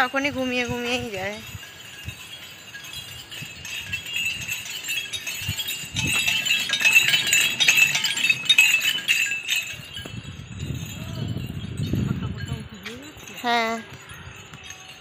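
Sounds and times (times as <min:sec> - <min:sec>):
metallic jingling and clinking: 0:00.0 - 0:15.0.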